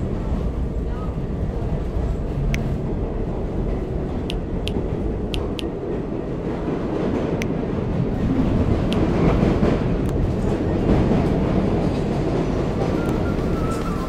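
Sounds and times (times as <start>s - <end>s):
subway train rumble: 0.0s - 14.0s.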